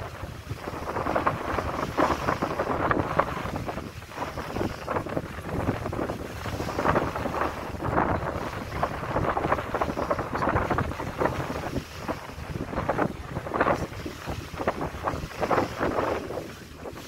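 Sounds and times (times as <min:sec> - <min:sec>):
wind gusting against microphone: 0:00.0 - 0:17.0.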